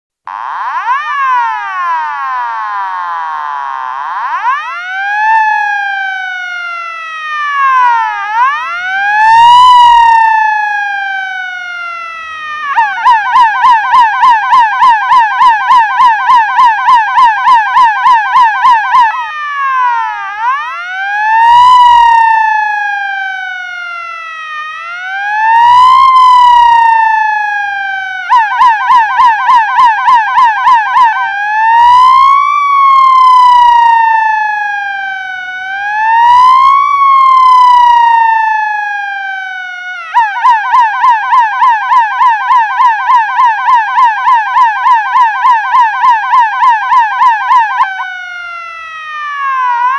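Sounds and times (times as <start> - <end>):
ambulance siren: 0.3 - 49.9.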